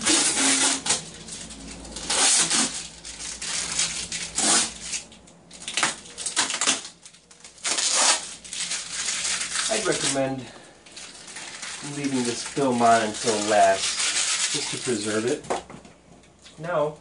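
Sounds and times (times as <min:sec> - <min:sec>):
packing tape peeling: 0:00.0 - 0:15.4
plastic wrap crinkling: 0:00.0 - 0:15.6.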